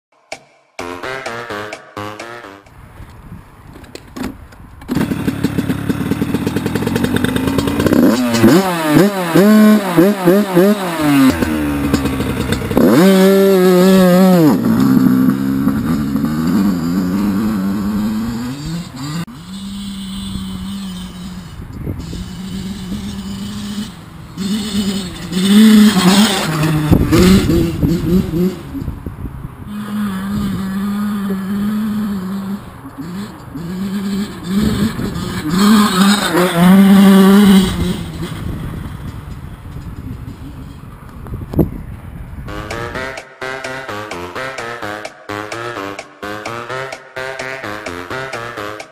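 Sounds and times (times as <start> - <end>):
two-stroke engine revving: 4.9 - 29.0, 29.7 - 40.8, 42.5 - 48.9.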